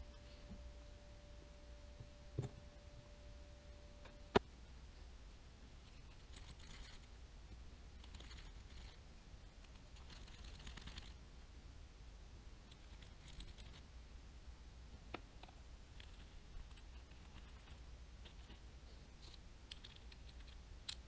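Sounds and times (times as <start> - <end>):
faint steady tone: 0.0 - 21.0.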